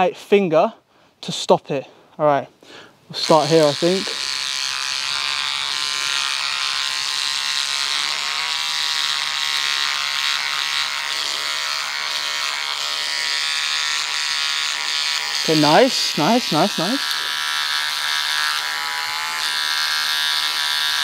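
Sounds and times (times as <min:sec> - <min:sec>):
electric trimmer buzzing: 0:03.1 - 0:21.0.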